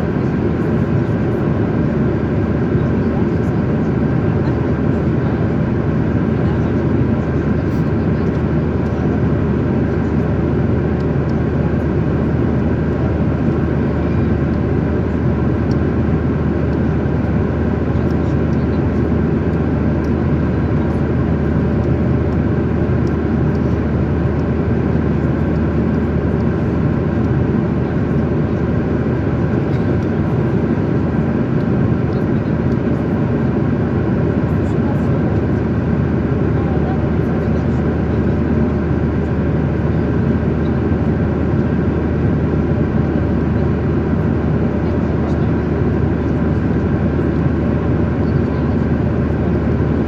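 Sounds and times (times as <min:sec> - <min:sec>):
airliner cabin engine rush: 0:00.0 - 0:50.0.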